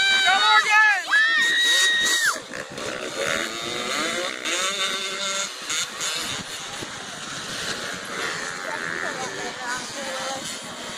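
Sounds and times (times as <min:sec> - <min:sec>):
dirt bike engines revving: 0:00.0 - 0:10.9.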